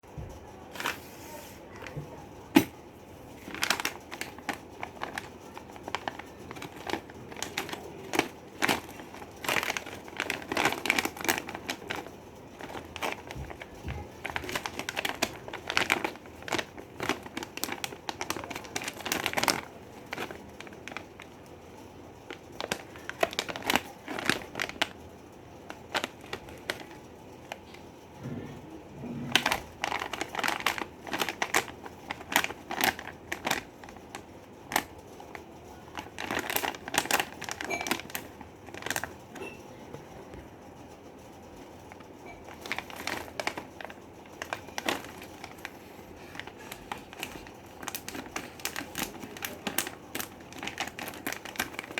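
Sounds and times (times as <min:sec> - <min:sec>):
plastic wrapper crinkling: 0:02.5 - 0:28.0, 0:29.0 - 0:39.4, 0:41.8 - 0:51.9.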